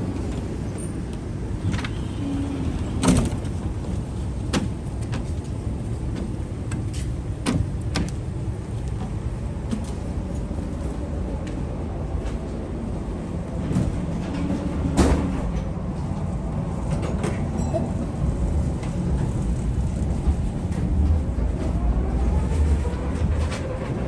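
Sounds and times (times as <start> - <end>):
rail clicks and clacks: 0.0 - 24.0
tram motor whine: 0.0 - 24.0
tram rumbling on rails: 0.0 - 24.0.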